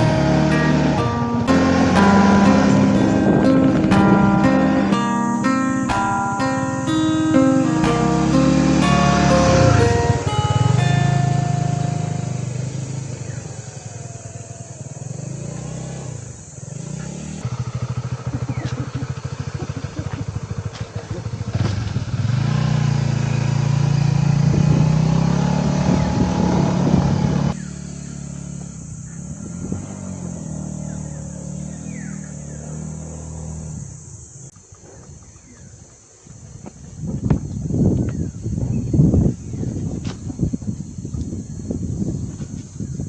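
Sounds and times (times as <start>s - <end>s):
motorcycle engine revving: 0.0s - 34.5s.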